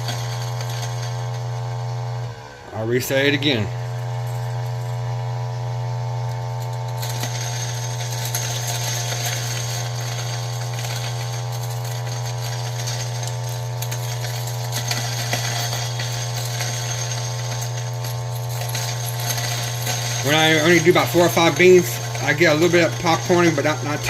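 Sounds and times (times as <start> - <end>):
coffee beans crackling in grinder: 0.0 - 24.0
grinder motor humming: 0.0 - 24.0.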